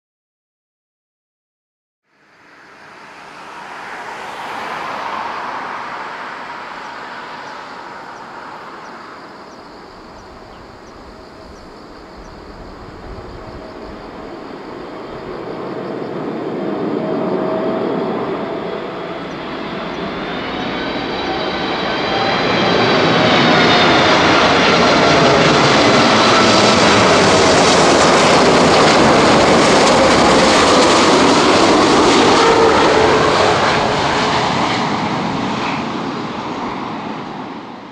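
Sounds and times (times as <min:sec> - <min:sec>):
jet airliner passing low: 0:02.1 - 0:37.9
jet engines whining: 0:02.3 - 0:37.9.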